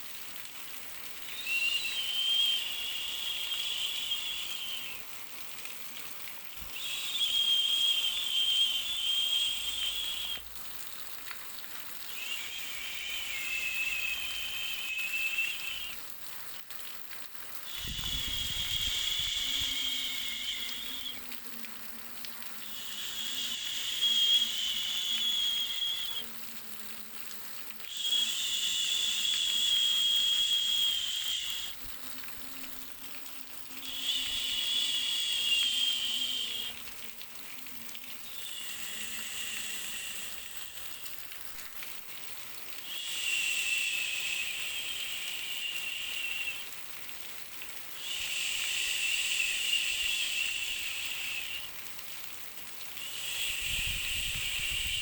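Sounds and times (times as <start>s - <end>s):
white noise hiss: 0.0s - 55.0s
thin whistling tone: 1.1s - 5.9s, 6.6s - 11.1s, 12.0s - 16.1s, 17.6s - 21.6s, 22.6s - 26.4s, 27.8s - 41.8s, 42.7s - 47.1s, 48.0s - 51.8s, 52.9s - 55.0s.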